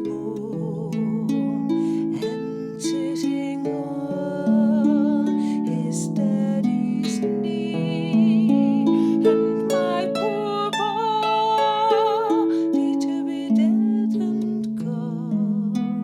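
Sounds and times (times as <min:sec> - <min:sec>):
harp music: 0:00.0 - 0:16.0
wavering held melody: 0:00.0 - 0:16.0.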